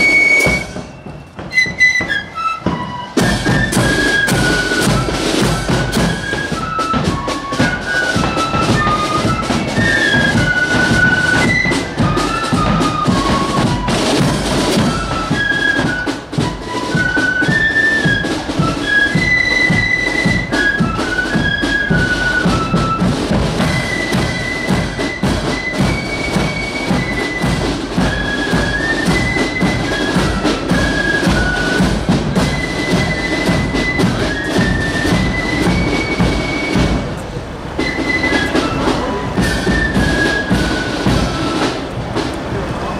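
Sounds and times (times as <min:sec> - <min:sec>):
drums beating: 0:00.0 - 0:42.9
flutes playing a tune: 0:00.0 - 0:42.9.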